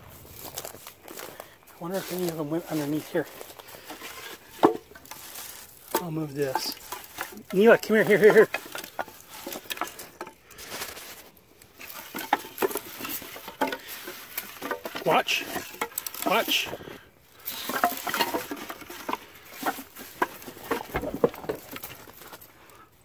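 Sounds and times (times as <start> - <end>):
rustling plants: 0.0 - 23.0
wooden boards knocking and scraping: 1.9 - 22.4.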